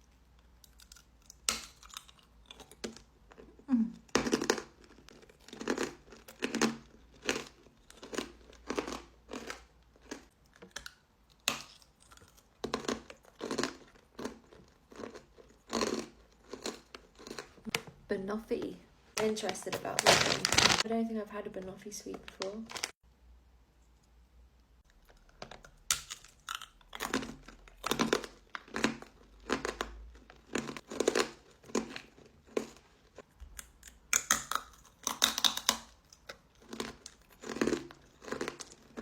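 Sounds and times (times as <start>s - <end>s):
hard candy crunching in mouth: 0.3s - 17.8s, 19.9s - 20.8s, 24.8s - 39.0s.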